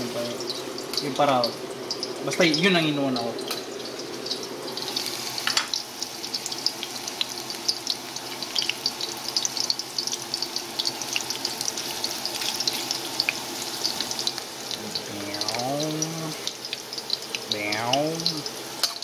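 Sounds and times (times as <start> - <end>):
ginger sizzling in hot oil: 0.0 - 19.0.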